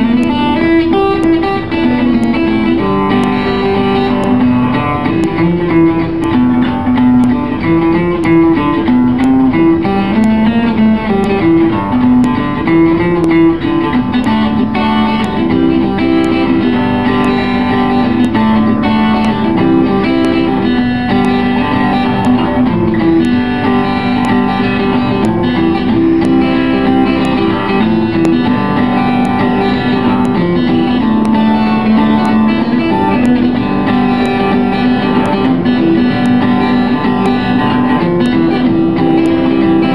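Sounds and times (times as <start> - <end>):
acoustic guitar bluegrass boogie: 0.0 - 39.9.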